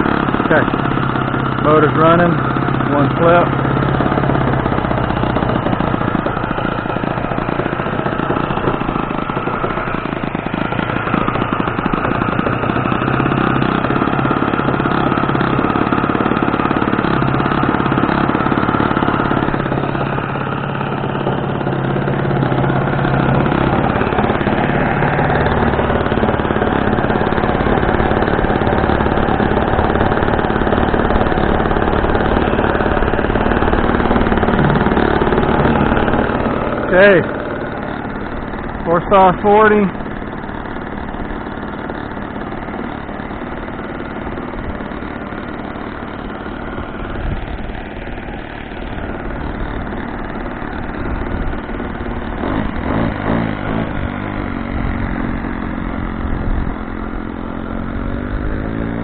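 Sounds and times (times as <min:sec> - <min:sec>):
model airplane engine running: 0:00.0 - 0:59.0.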